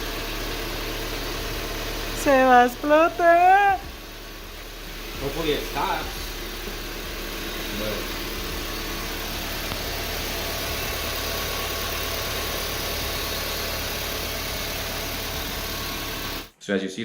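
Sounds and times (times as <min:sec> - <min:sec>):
car engine idling: 0:00.0 - 0:16.5.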